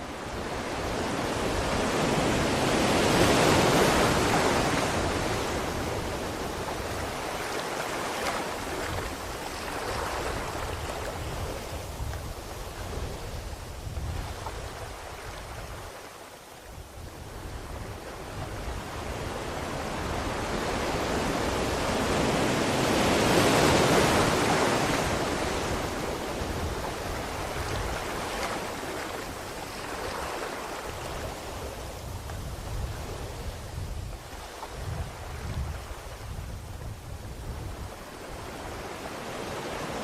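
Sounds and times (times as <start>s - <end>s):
rushing water: 0.0s - 17.0s, 17.6s - 40.0s.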